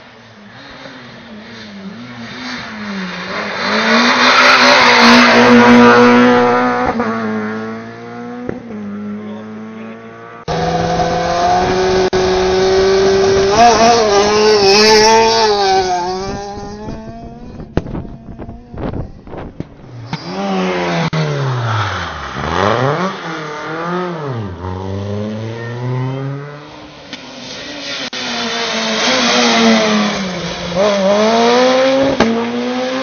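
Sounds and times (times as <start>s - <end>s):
rally cars passing at high revs: 0.0s - 33.0s.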